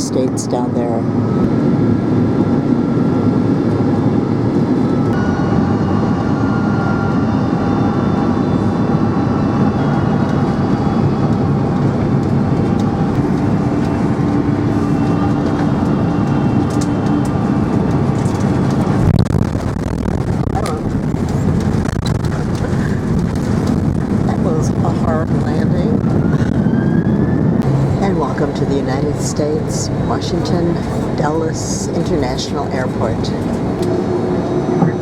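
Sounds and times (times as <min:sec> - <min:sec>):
airliner cabin engine and airflow noise: 0:00.0 - 0:35.0.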